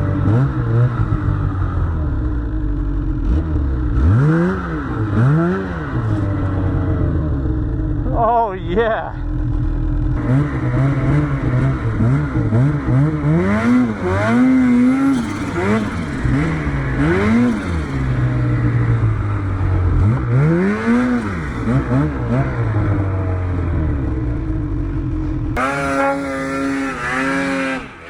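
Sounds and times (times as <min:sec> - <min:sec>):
snowmobile engine revving: 0:00.0 - 0:09.5, 0:10.1 - 0:28.0.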